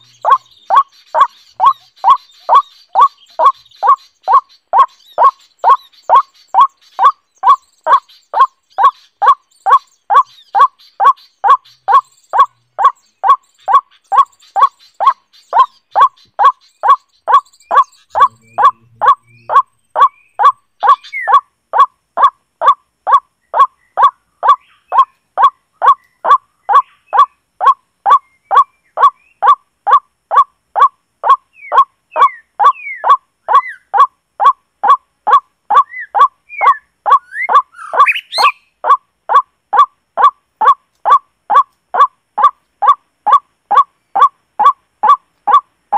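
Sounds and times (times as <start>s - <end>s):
bird call from portable speaker: 0.0s - 45.7s
faint bird chirps: 0.0s - 45.9s.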